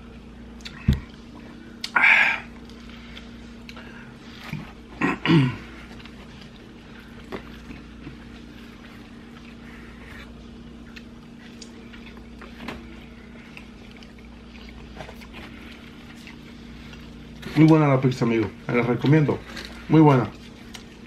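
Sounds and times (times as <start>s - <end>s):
steady low hum: 0.0s - 21.0s
faint chewing: 0.6s - 4.9s, 5.6s - 21.0s.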